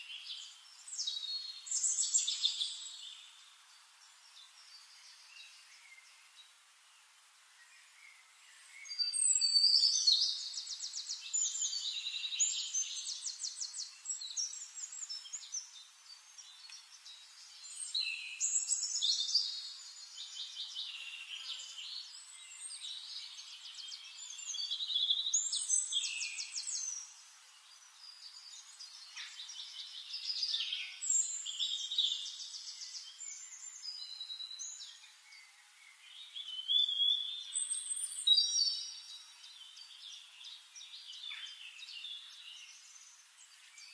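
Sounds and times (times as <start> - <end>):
songbirds trilling and chirping: 0.0 - 43.9.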